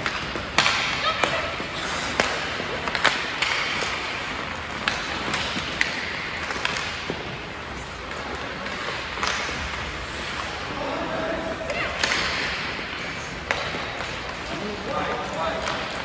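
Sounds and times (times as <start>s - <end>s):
hockey sticks clacking on puck: 0.0s - 16.0s
skates scraping on ice: 0.0s - 16.0s.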